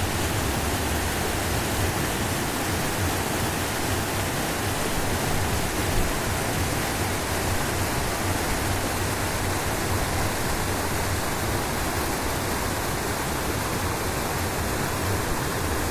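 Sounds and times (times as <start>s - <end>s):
river rapids roaring: 0.0s - 15.9s.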